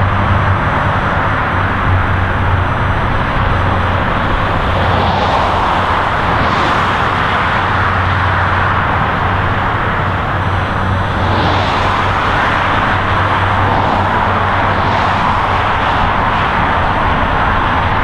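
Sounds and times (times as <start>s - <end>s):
constant low hum: 0.0s - 18.0s
highway traffic rushing: 0.0s - 18.0s
vehicles passing at speed: 0.0s - 18.0s.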